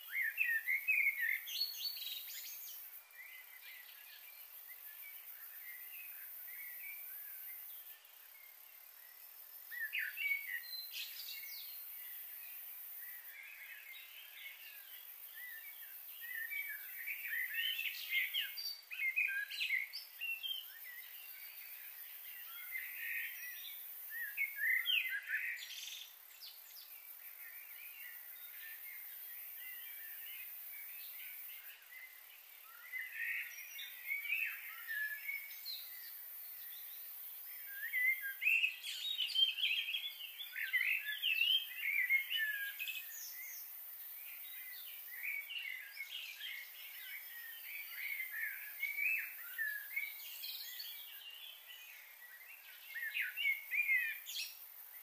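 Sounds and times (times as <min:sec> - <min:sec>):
faint high hiss: 0:00.0 - 0:55.0
small birds chirping: 0:00.0 - 0:55.0.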